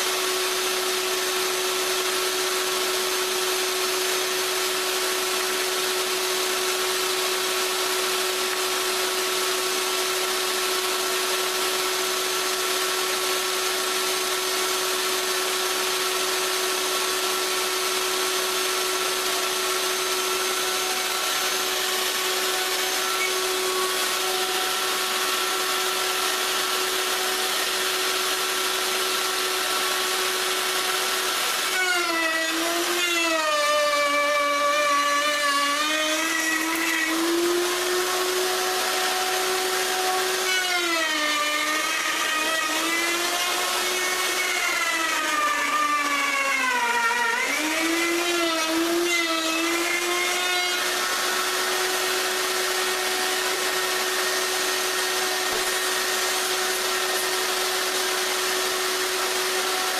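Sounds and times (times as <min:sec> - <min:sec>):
wood router cutting: 0:00.0 - 0:59.9.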